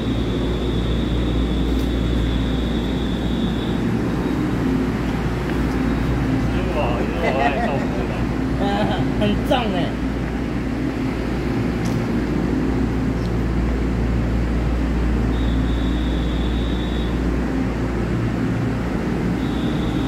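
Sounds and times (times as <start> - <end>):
electric train hum: 0.0 - 20.0.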